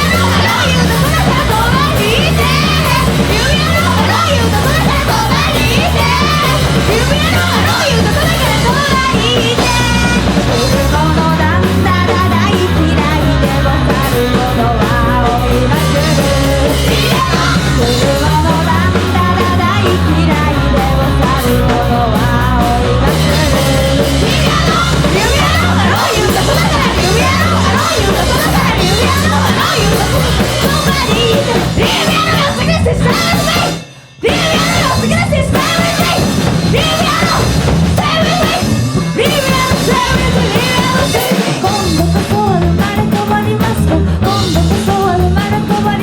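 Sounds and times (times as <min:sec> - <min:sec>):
punk rock band playing: 0:00.0 - 0:46.0.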